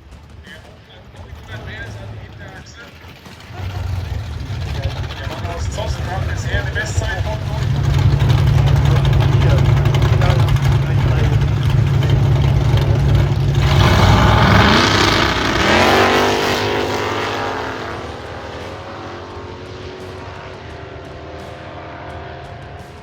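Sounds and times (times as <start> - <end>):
drag car engines revving: 0.0 - 23.0.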